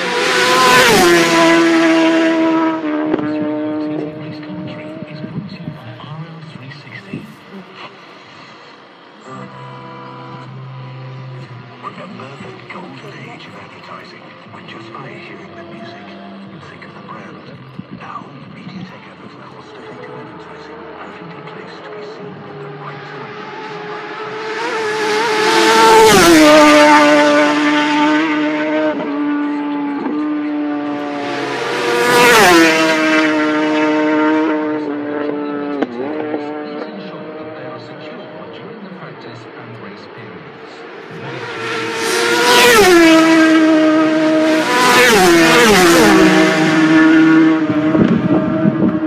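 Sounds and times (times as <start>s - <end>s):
racing motorcycle passing: 0.0s - 49.0s.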